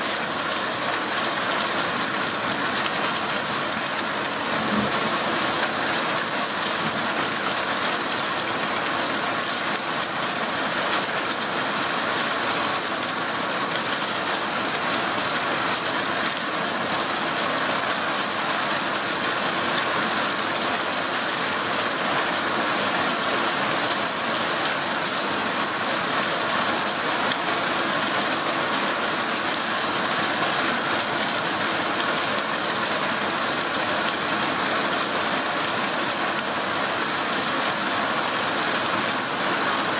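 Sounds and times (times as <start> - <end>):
heavy rain and hail pelting: 0.0 - 39.9.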